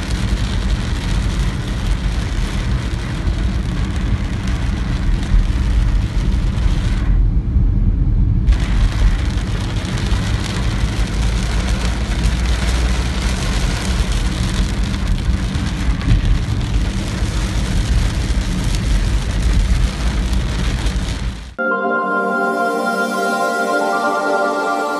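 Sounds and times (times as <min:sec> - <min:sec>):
heavy rain on car: 0:00.0 - 0:21.6.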